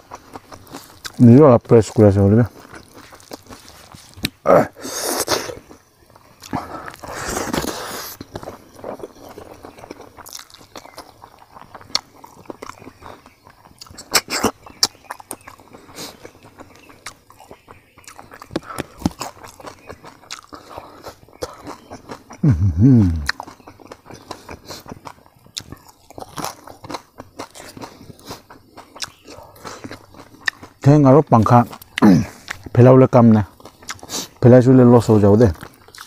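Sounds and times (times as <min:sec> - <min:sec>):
chewing and crunching: 0:00.0 - 0:36.0.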